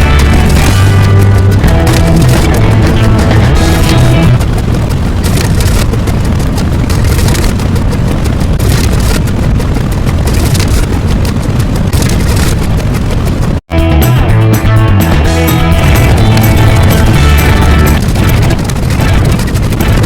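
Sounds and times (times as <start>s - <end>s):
loud low steady noise: 0.0s - 20.0s.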